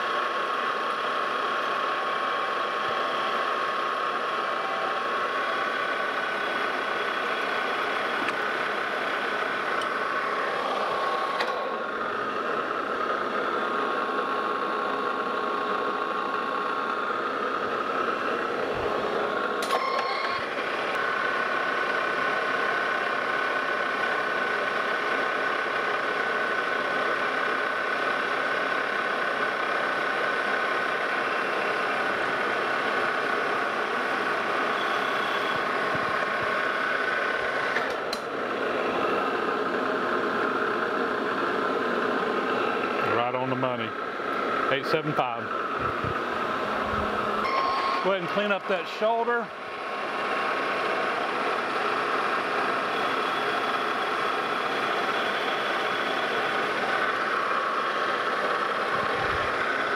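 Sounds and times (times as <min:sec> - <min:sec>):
metal lathe whining: 0:00.0 - 0:59.9.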